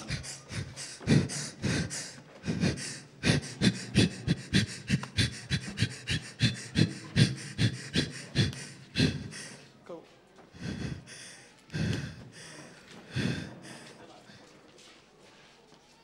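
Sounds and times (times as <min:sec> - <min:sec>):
woman panting into microphone: 0:00.0 - 0:09.8, 0:10.4 - 0:14.6.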